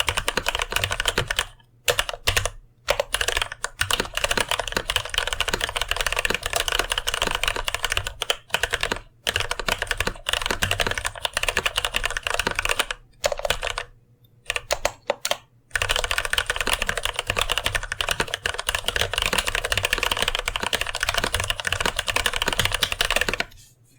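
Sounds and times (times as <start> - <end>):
typing on mechanical keyboard: 0.0 - 13.9, 14.5 - 23.5.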